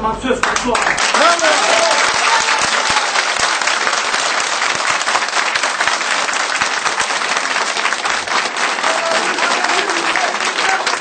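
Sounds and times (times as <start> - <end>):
crowd applauding: 0.4 - 11.0.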